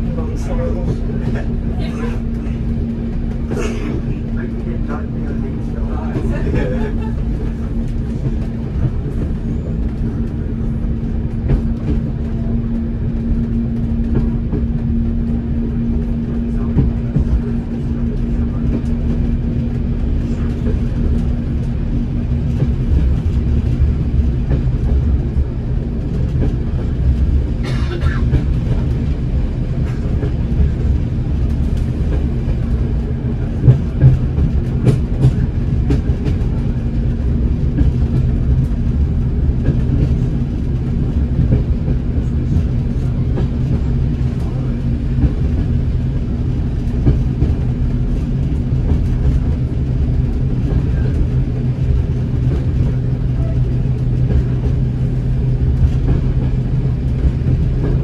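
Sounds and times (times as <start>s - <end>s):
diesel engine drone: 0.0s - 58.0s
wheels on rail: 0.0s - 58.0s.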